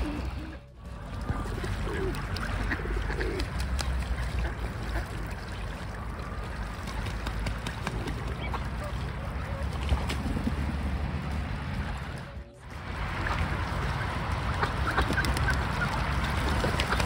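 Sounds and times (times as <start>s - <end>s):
birds splashing in water: 0.0s - 17.0s
steady low rumble: 0.0s - 17.0s.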